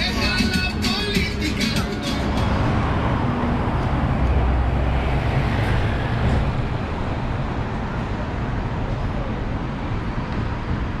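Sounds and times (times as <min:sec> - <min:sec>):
street hubbub: 0:00.0 - 0:11.0
vehicle engine rumbling: 0:00.0 - 0:11.0.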